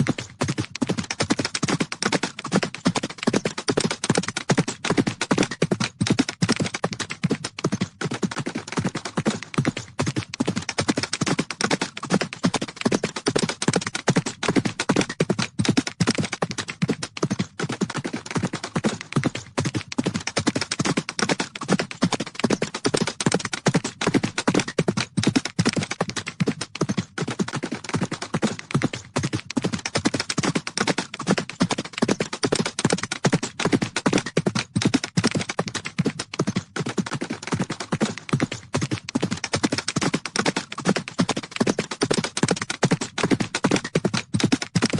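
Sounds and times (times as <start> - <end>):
horses galloping: 0.0 - 44.9.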